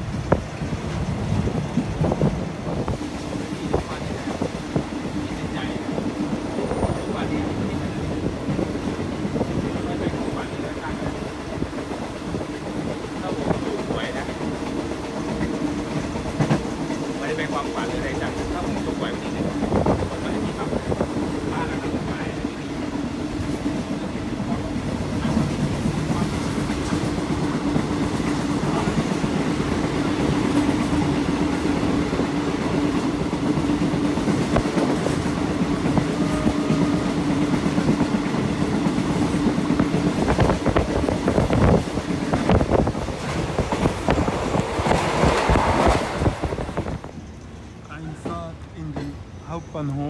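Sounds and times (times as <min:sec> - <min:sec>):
train rumbling drone: 0:00.0 - 0:50.0.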